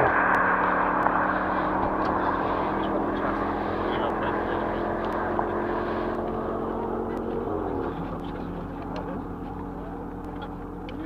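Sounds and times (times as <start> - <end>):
distant car engine at full throttle: 0.0 - 11.0.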